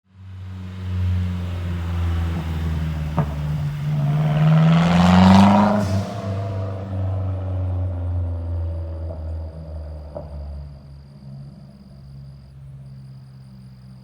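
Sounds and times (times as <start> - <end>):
car engine idling and revving: 0.1 - 14.0.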